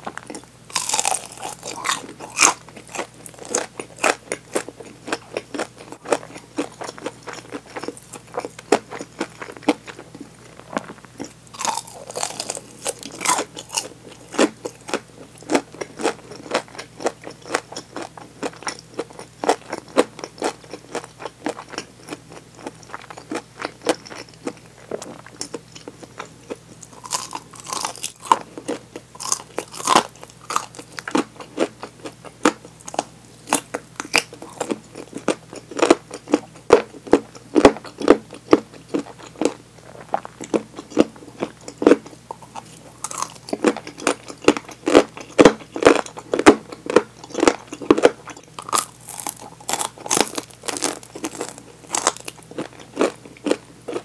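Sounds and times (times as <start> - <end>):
crunchy chewing of fried chicken: 0.0 - 54.0.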